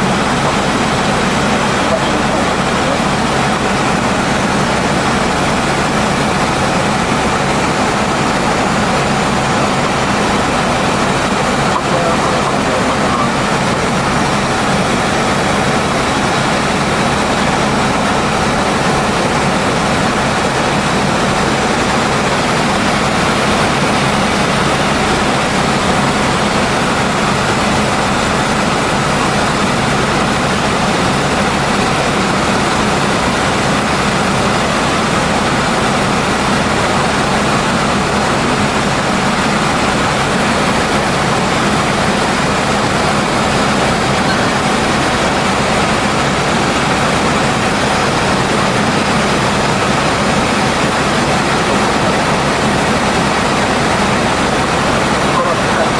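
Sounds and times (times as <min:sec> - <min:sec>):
helicopter engine and rotor noise: 0:00.0 - 0:55.9.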